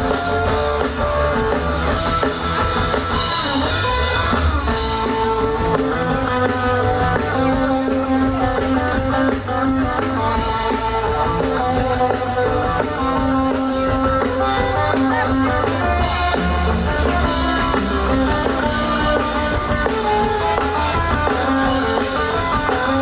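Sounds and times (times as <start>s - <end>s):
live pop-rock band playing: 0.0s - 23.0s.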